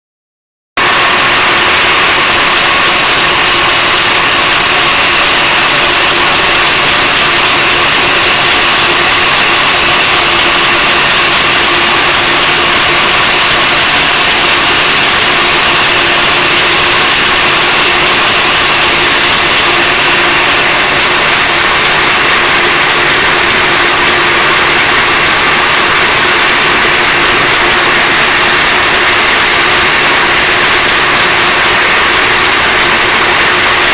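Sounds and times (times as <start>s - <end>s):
two-stroke engine idling: 0.9s - 33.9s.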